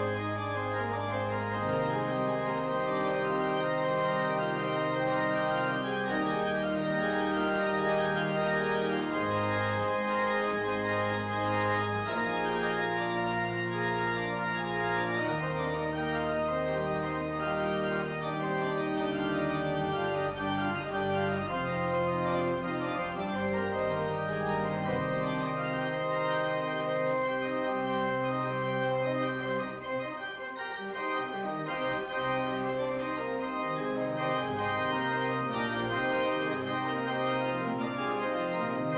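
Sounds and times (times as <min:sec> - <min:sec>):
church organ chords: 0:00.0 - 0:38.9.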